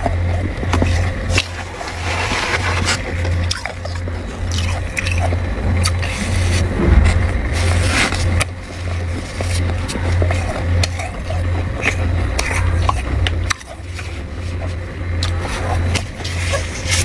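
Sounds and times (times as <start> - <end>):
low hum: 0.0 - 17.0
frost being scraped and crunched: 0.8 - 5.2, 5.9 - 13.1, 13.8 - 17.0.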